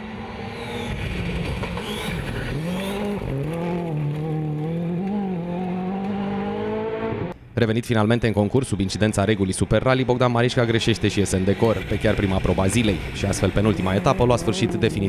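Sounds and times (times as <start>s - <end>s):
rally car engine revving: 0.0s - 7.4s, 10.1s - 15.0s.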